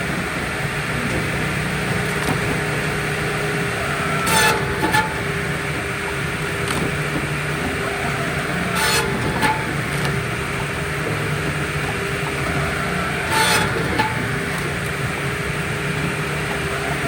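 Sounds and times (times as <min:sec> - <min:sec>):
engine running steadily: 0:00.0 - 0:17.0
high squeal and clatter: 0:00.0 - 0:17.0.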